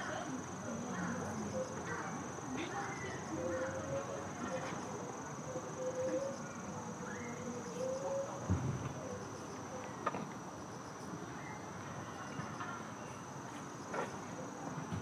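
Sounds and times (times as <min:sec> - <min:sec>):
insects trilling: 0:00.0 - 0:14.6.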